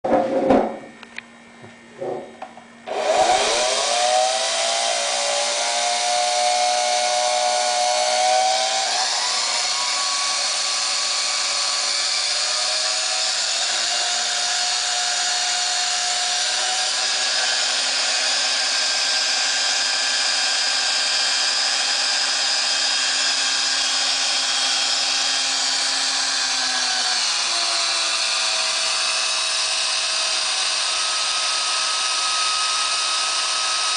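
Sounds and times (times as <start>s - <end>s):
stand mixer motor whining: 2.9s - 33.9s.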